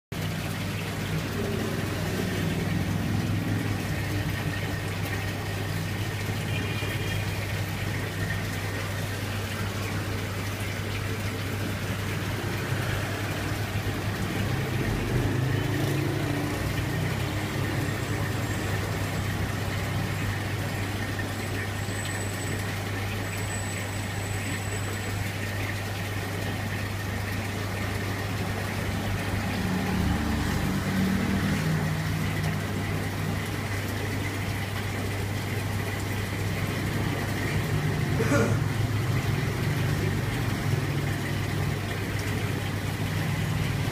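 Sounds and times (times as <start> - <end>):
water running and splashing: 0.1 - 43.9.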